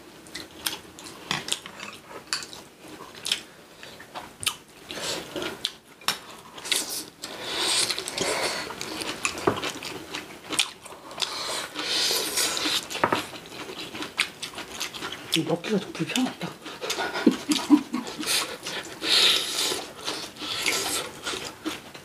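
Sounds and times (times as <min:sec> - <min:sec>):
chewing: 0:00.3 - 0:22.0.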